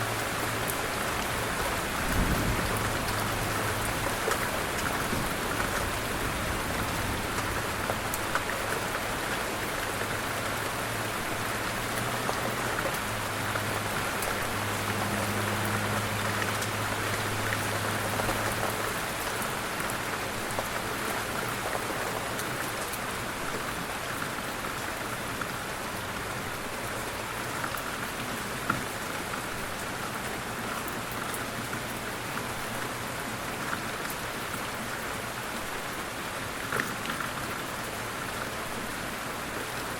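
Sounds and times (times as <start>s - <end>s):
light rain falling: 0.0s - 39.9s
raindrops ticking: 0.0s - 39.9s.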